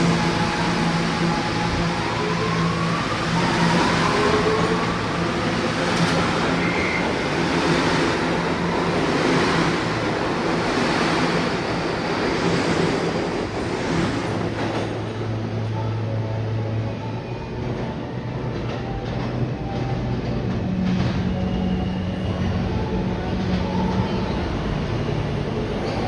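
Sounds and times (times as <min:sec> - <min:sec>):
subway wheels rumbling on rail: 0:00.0 - 0:26.0.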